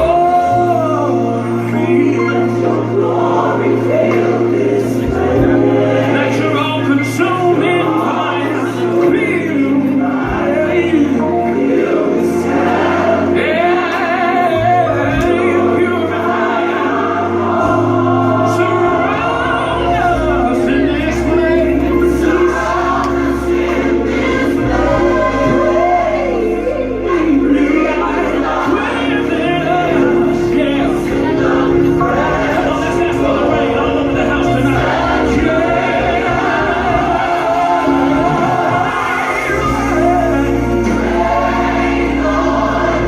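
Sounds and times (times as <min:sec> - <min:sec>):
choir singing gospel music: 0:00.0 - 0:43.0
long held bass notes: 0:00.0 - 0:43.0.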